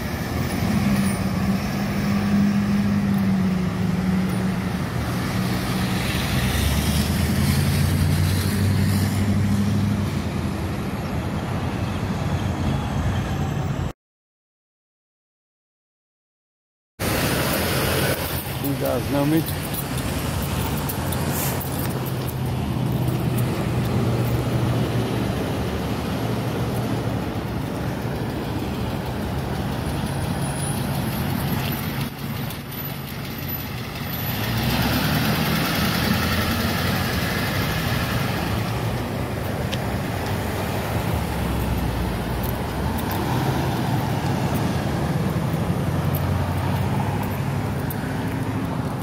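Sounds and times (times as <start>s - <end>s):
ambulance driving past: 0.0s - 13.9s, 17.0s - 49.0s
road traffic passing: 0.0s - 13.9s, 17.0s - 49.0s.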